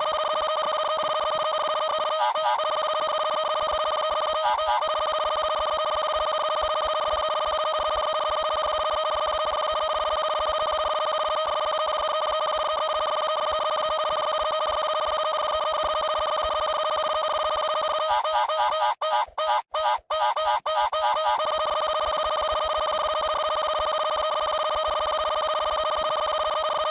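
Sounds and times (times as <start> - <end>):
fluttering electronic ringing tone: 0.0 - 26.9.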